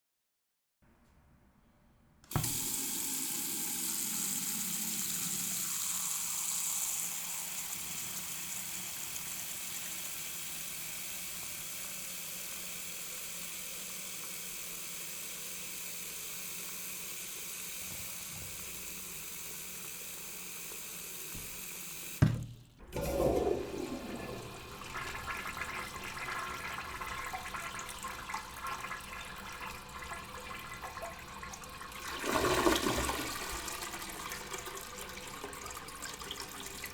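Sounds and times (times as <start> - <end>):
tap water running into sink: 2.3 - 36.9.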